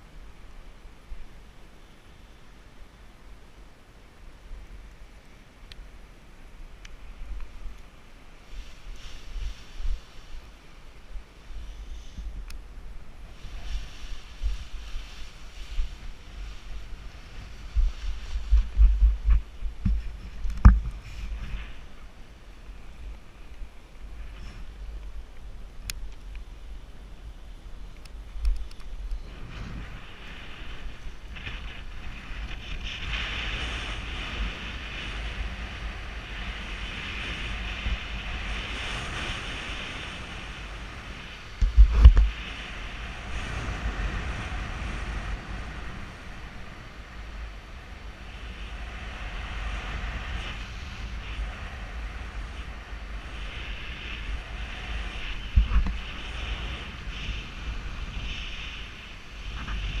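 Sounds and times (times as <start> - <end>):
wind buffeting microphone: 6.7 - 60.0.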